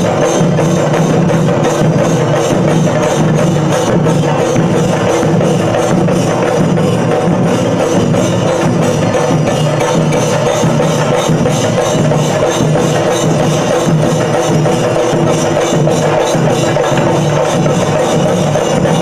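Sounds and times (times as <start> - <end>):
drums beaten with sticks: 0.0 - 19.0.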